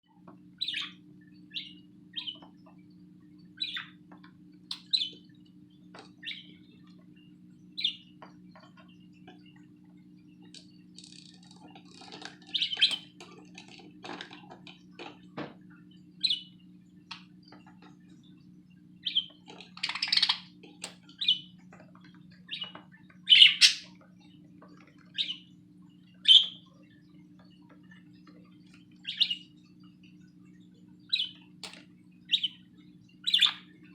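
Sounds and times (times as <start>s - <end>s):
faint low hum: 0.0s - 33.9s
budgies chirping: 0.6s - 33.9s.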